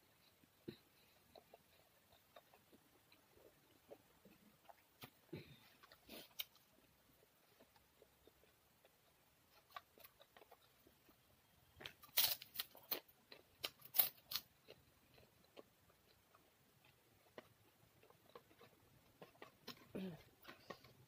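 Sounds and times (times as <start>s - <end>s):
crunching and chewing clicks: 0.2s - 21.0s.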